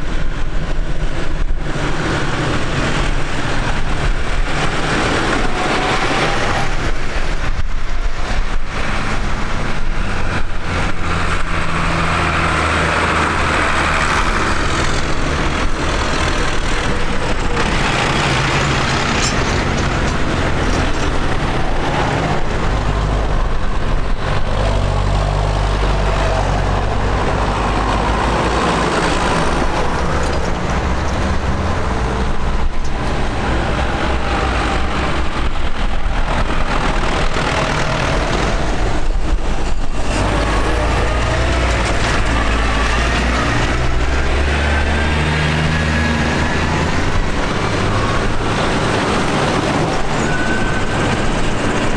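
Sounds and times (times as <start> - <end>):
tractors driving past: 0.0 - 51.9.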